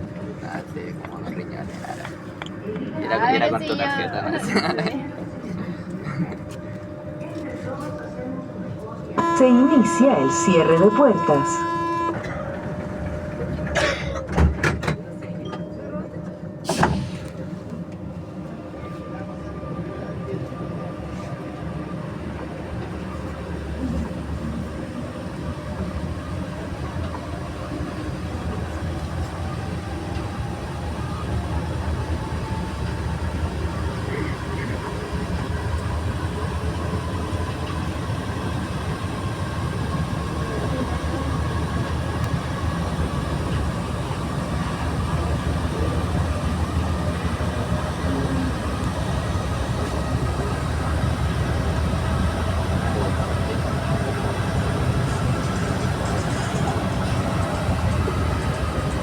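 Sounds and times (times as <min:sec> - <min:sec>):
metro train rumble: 0:00.0 - 0:59.0.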